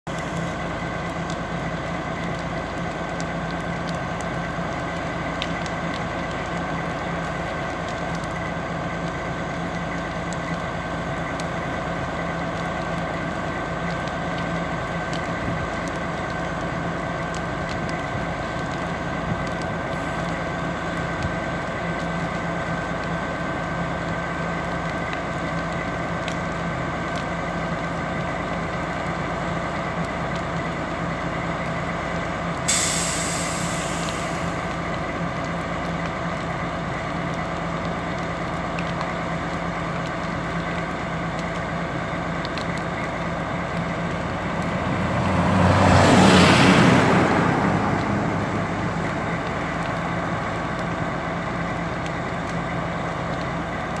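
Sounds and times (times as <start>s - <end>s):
fire engine idling: 0.0s - 54.0s
fire crackling and popping: 0.1s - 54.0s.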